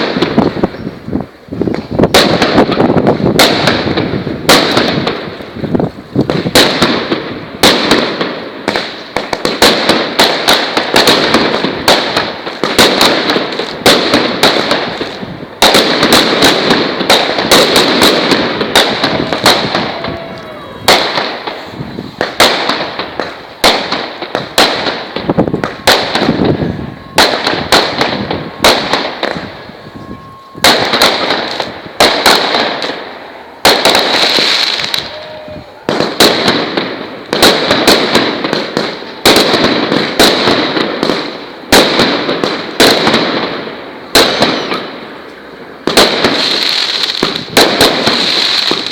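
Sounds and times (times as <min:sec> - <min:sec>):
fireworks popping and crackling: 0:00.0 - 0:48.9.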